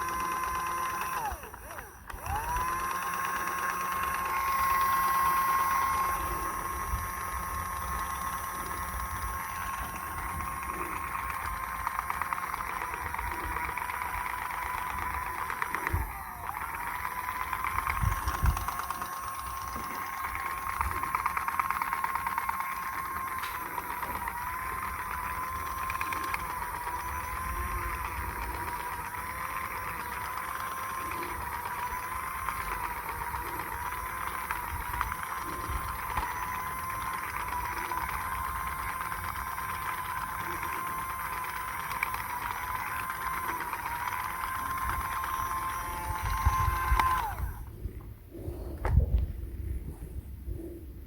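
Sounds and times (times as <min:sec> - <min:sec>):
small electric motor whining: 0:00.0 - 0:50.9.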